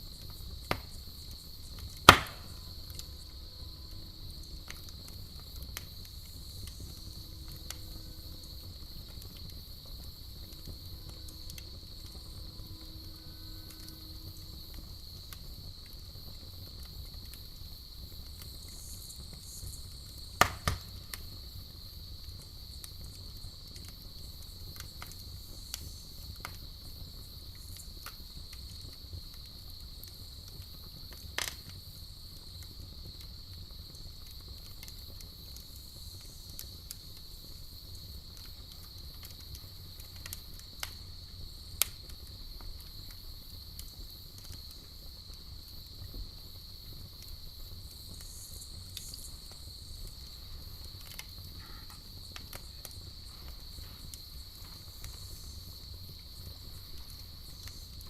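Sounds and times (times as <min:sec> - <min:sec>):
campfire crackling and popping: 0:00.0 - 0:58.0
cricket trill: 0:00.0 - 0:58.0.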